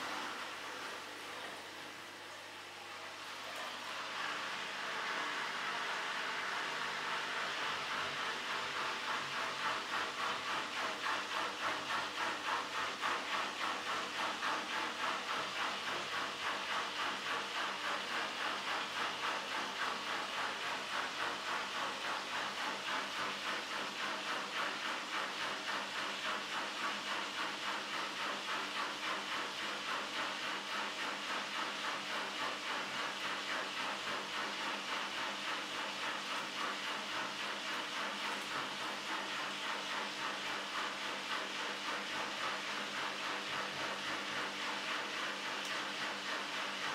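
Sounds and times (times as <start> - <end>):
washing machine drum spinning: 3.1 - 46.9.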